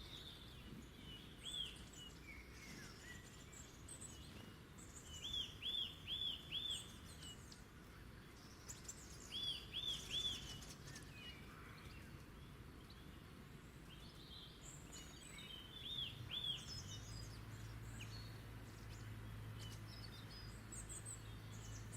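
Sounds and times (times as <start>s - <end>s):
bird song with arched notes: 0.0s - 21.9s.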